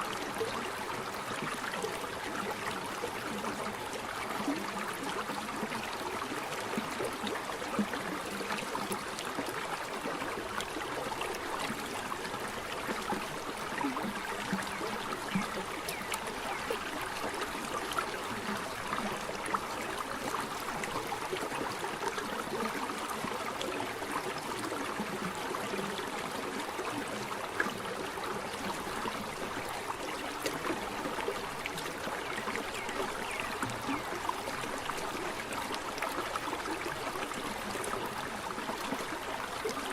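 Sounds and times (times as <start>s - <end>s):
water babbling over rocks: 0.0s - 39.9s.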